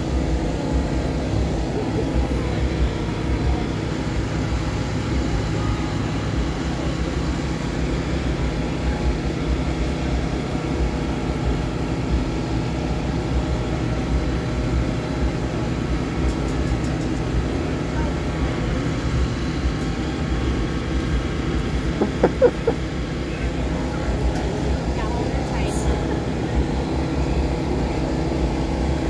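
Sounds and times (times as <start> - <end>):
engine droning steadily: 0.0 - 29.0.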